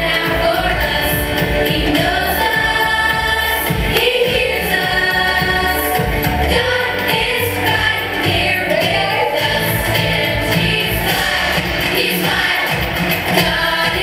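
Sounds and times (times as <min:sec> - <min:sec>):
several voices singing together: 0:00.0 - 0:14.0
steady bass beat: 0:00.0 - 0:14.0.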